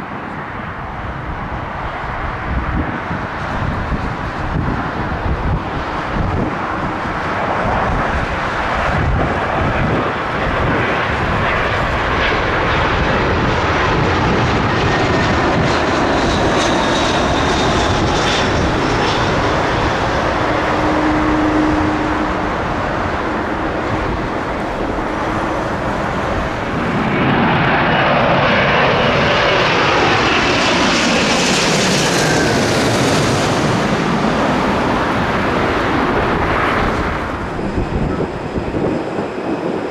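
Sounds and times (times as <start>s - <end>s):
jet airliner passing: 0.0s - 39.9s.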